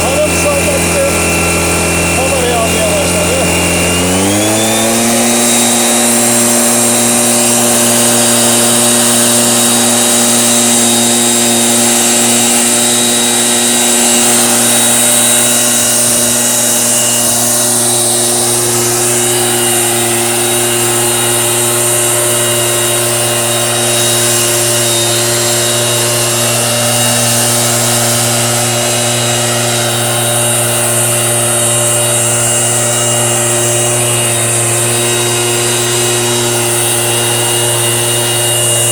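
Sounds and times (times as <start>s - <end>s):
sprayer small engine running: 0.0s - 38.9s.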